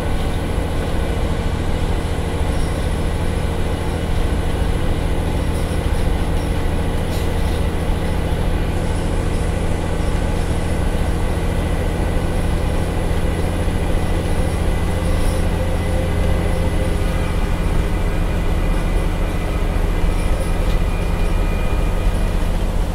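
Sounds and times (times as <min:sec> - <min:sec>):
bus diesel engine pulling hard: 0:00.0 - 0:22.9.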